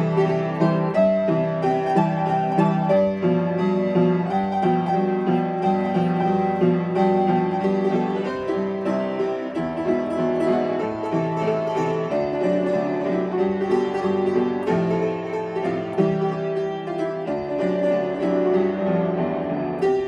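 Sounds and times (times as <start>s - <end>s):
upright piano playing: 0.0s - 20.0s.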